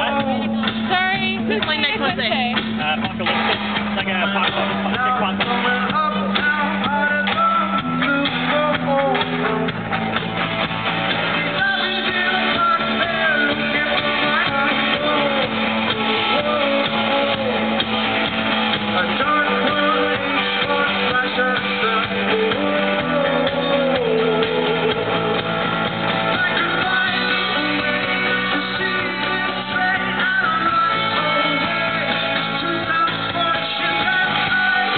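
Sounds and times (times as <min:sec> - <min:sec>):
person singing: 0:00.0 - 0:03.4, 0:04.2 - 0:10.0, 0:11.1 - 0:18.1, 0:18.8 - 0:34.9
bass guitar: 0:00.0 - 0:34.9
drums: 0:00.0 - 0:34.9
electric guitars: 0:00.0 - 0:34.9.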